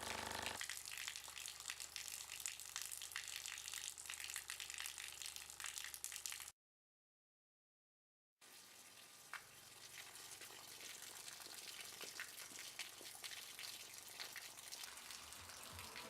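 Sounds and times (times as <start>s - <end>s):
water running from a hose: 0.0s - 6.5s, 8.4s - 16.0s
small drip-like clicks: 0.6s - 6.5s, 9.0s - 16.0s.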